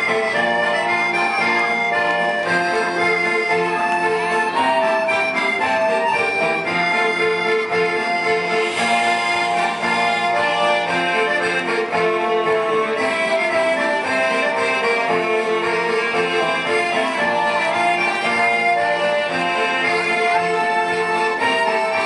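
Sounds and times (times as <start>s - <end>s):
accordion folk music: 0.0s - 22.0s.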